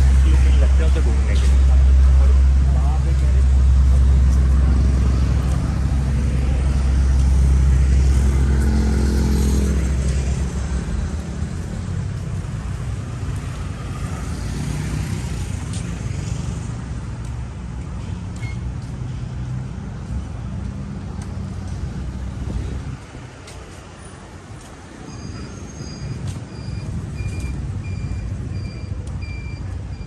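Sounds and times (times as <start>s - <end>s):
passing traffic: 0.0s - 30.0s
vehicle engine rumble: 0.0s - 30.0s.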